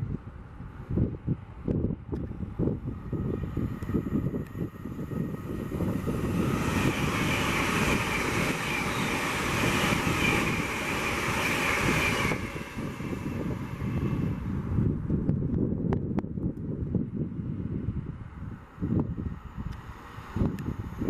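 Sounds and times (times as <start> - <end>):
wind buffeting microphone: 0.0 - 21.0
train passing at speed: 0.2 - 15.4, 17.0 - 21.0.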